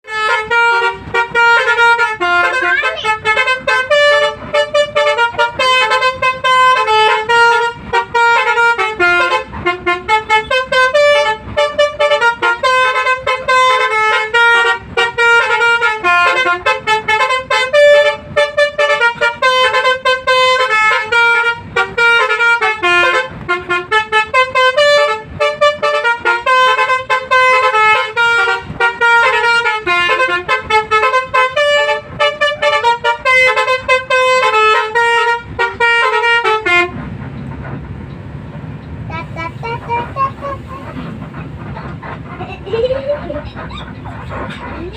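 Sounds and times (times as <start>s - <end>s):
bus horn playing melody: 0.0s - 37.2s, 39.1s - 44.9s.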